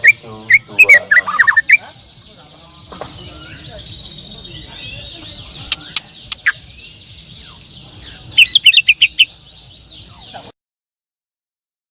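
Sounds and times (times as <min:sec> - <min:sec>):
loud sharp rapid bird notes: 0:00.0 - 0:02.1, 0:02.8 - 0:10.6
birds chorus of chirps and whistles: 0:00.0 - 0:10.6.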